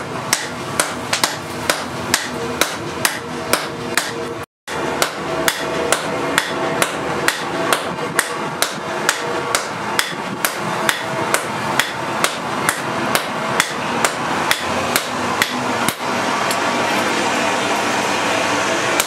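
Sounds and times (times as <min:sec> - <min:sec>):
hammer striking hot steel on anvil: 0:00.0 - 0:16.7
steady background noise: 0:00.0 - 0:19.0.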